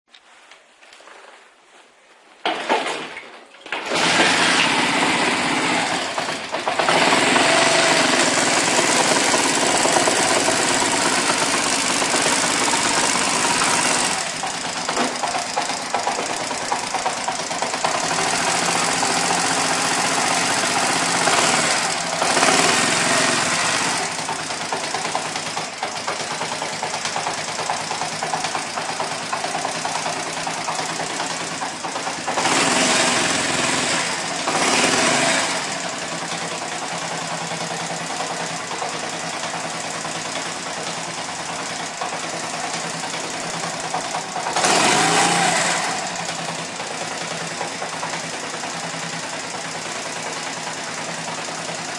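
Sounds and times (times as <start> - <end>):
motorcycle engine starting and idling: 2.5 - 51.9.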